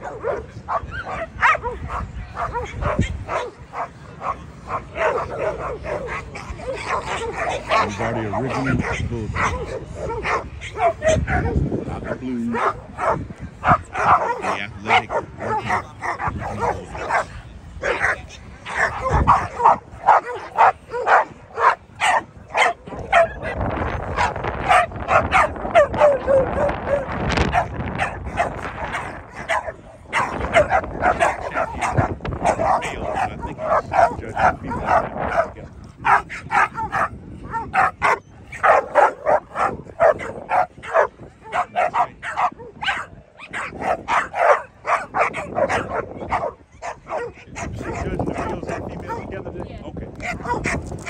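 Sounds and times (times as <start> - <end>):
dog barking: 0.0 - 11.6, 12.5 - 49.3, 50.2 - 50.8.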